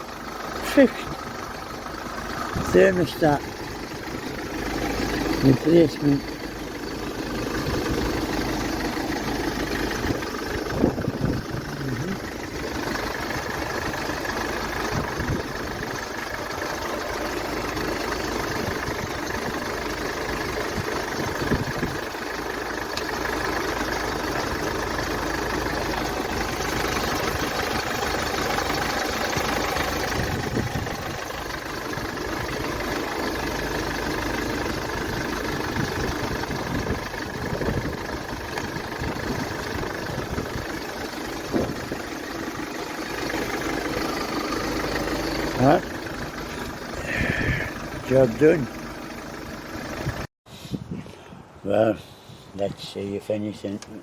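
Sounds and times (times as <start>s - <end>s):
van engine idling: 0.0s - 50.3s.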